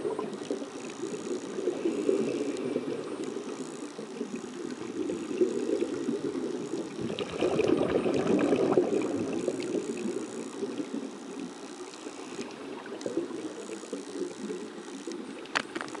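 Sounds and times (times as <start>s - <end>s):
underwater air bubbling: 0.0s - 16.0s.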